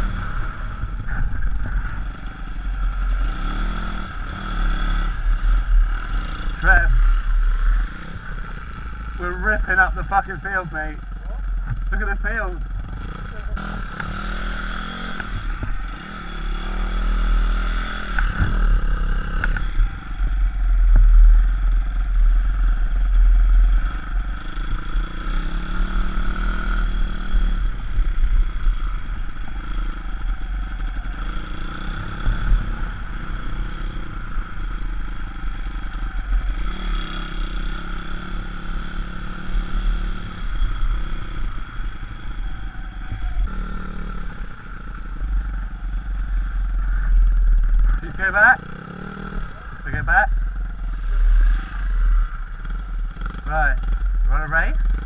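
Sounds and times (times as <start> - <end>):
pit bike engine running: 0.0 - 55.0.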